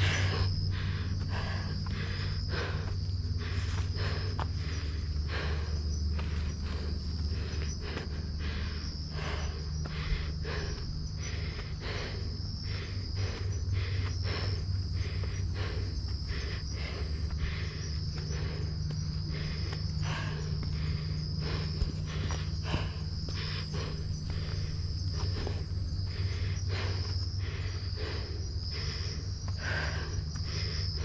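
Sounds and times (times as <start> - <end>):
crickets chirping: 0.0 - 31.0
footsteps on dirt trail: 0.0 - 31.0.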